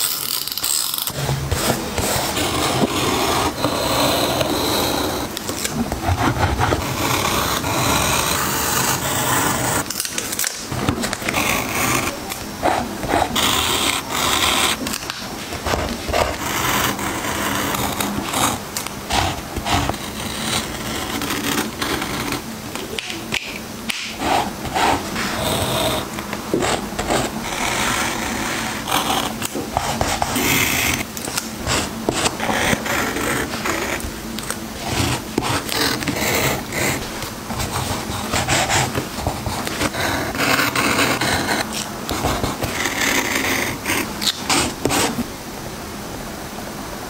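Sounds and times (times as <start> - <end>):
craft knife scraping stickers: 0.0 - 45.2.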